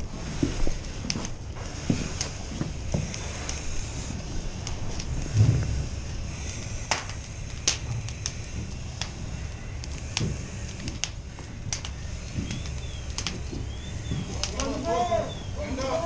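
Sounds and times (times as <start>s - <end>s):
burning wood crackling and popping: 0.0s - 16.0s
low rumble of fire: 0.0s - 16.0s.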